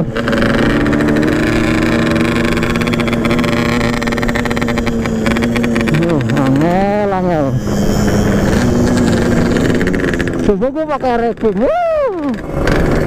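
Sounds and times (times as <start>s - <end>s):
two-stroke motorcycle engine: 0.0s - 13.0s.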